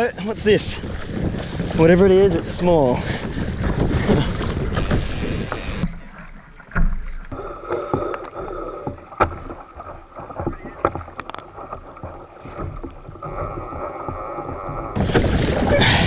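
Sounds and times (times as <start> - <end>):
water sloshing: 0.6 - 16.0.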